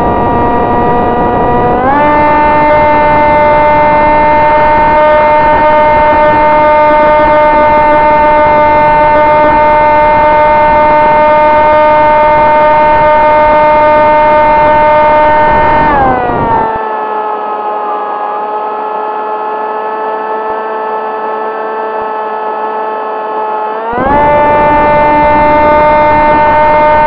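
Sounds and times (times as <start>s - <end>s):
electric motor and propeller whining: 0.0s - 27.0s.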